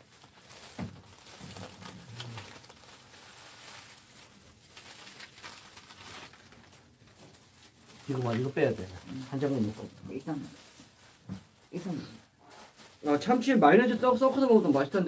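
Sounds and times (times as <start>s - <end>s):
dried seaweed sheets crackling: 0.0s - 15.0s.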